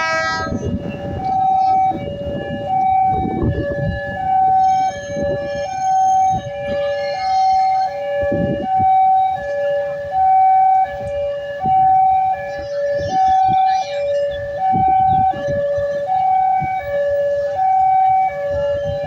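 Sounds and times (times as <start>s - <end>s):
two-tone warning siren: 0.0s - 19.0s.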